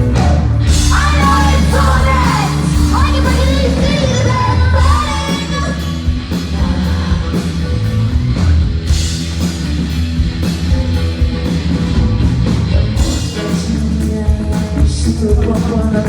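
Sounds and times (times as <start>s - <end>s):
rock band playing loudly: 0.0s - 16.0s.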